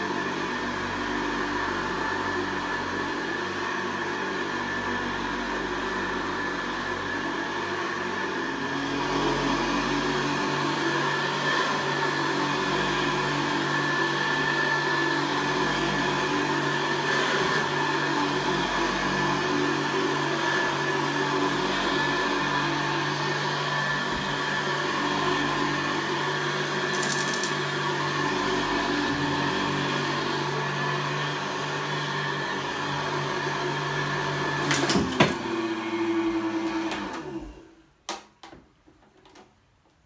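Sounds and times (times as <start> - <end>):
vacuum cleaner motor hum: 0.0 - 37.8.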